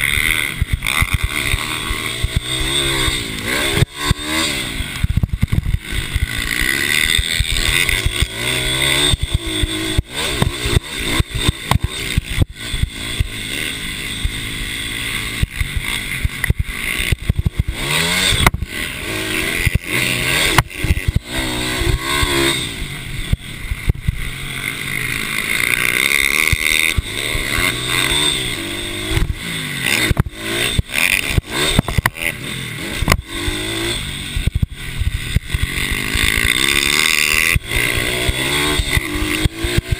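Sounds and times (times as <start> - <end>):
mini bike engines revving: 0.0 - 39.9.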